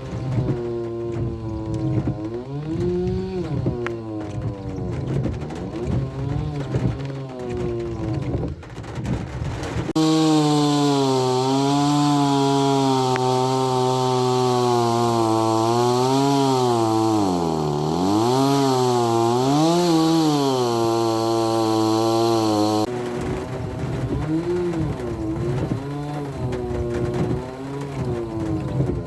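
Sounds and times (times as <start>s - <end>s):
chainsaw engine revving: 0.0s - 8.5s, 9.8s - 29.0s.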